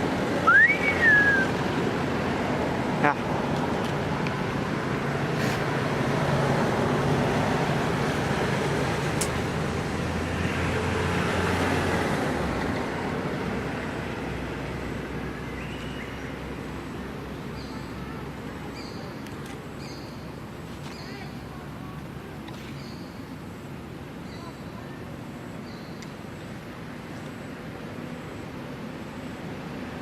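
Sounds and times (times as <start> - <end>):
passing road vehicle: 0.0 - 30.0.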